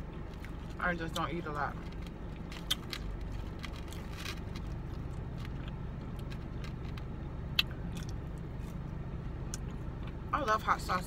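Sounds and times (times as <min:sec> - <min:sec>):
car engine humming inside cabin: 0:00.0 - 0:11.0.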